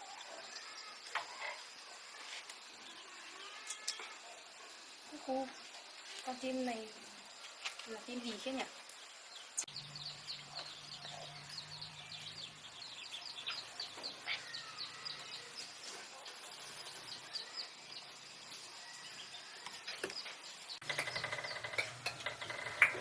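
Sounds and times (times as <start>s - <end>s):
baby birds cheeping: 0.0s - 23.0s.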